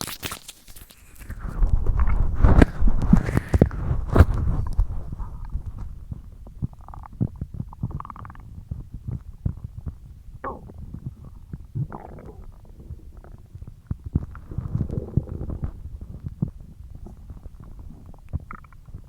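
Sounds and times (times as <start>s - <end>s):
stomach growling: 0.7s - 19.0s.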